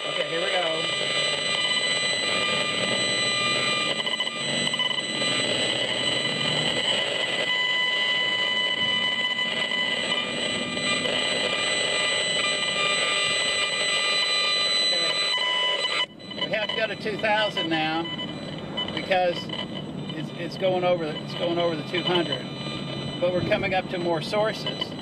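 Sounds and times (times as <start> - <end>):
electronic buzz and hiss: 0.0 - 25.0
high whining tones: 0.0 - 25.0.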